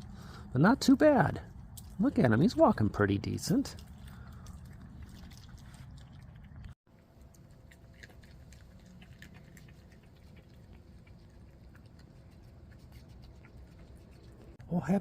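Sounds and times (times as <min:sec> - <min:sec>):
raccoons crunching peanuts: 0:00.0 - 0:14.6
low steady hum: 0:00.0 - 0:15.0.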